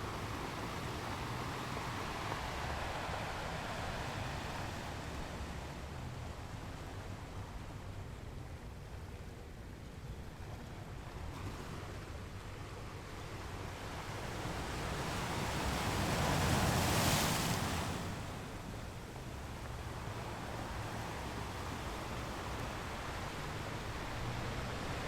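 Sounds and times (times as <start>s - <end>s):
ocean surf rumble: 0.0s - 25.0s.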